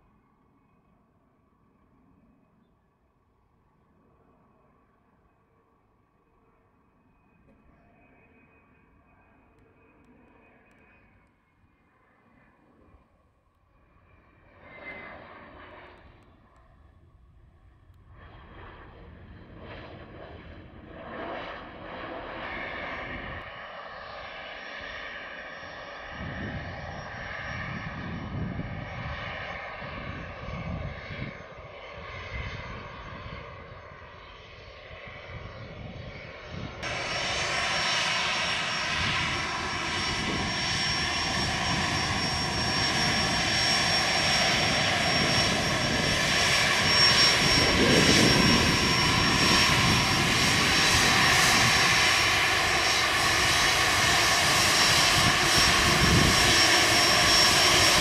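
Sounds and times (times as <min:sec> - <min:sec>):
jet engines whining while taxiing: 0:00.0 - 0:58.0.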